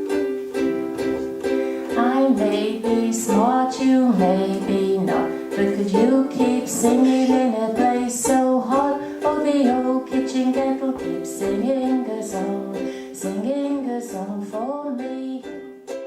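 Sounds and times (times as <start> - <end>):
strummed ukulele: 0.0 - 16.0
woman singing: 1.9 - 15.7.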